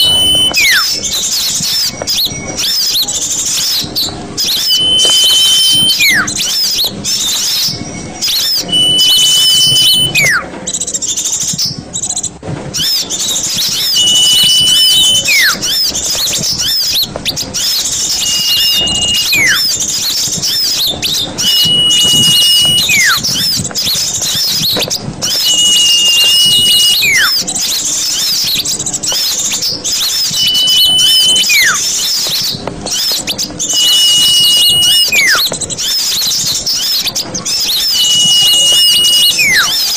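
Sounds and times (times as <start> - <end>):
falling whistle: 0.0 - 10.8, 12.8 - 39.9
small birds chirping: 0.0 - 39.9.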